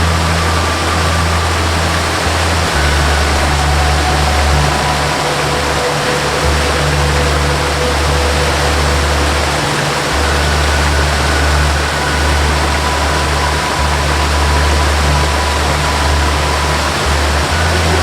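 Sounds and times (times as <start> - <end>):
ambient music with drone: 0.0 - 18.0
waterfall rushing: 0.0 - 18.0.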